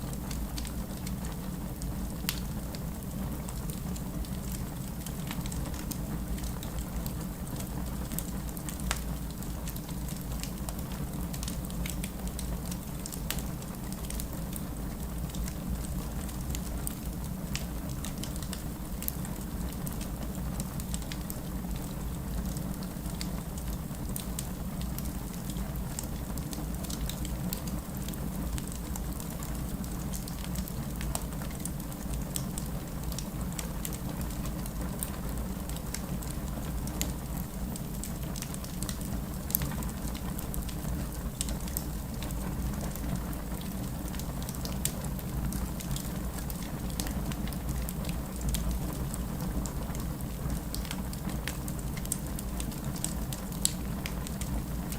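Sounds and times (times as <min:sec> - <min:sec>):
wood fire crackling and popping: 0:00.1 - 0:54.9.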